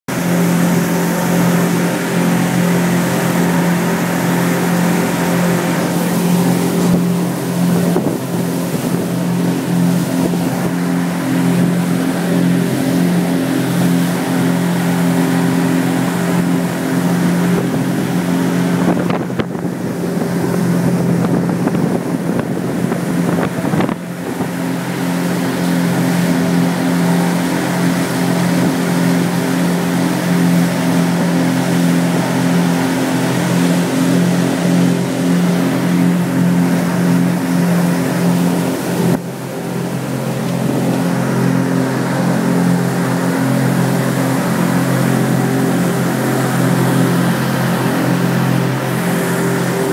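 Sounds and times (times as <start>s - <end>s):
churning wake water: 0.0s - 49.9s
outboard motors droning: 0.0s - 49.9s
wind: 0.0s - 49.9s.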